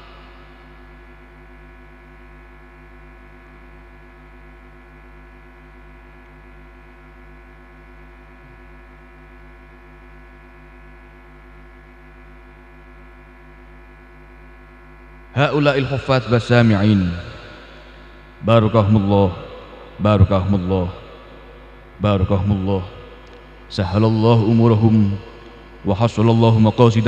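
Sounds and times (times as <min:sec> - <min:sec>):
electrical hum from sound system: 0:00.0 - 0:27.0.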